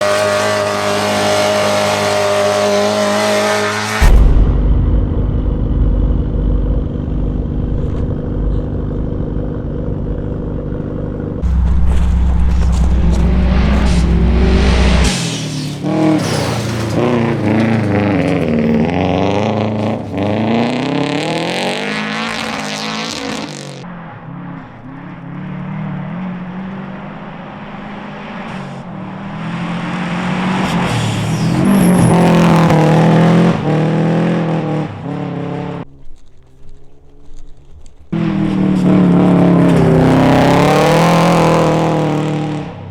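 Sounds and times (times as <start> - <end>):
rally car engines at full throttle: 0.0 - 42.9.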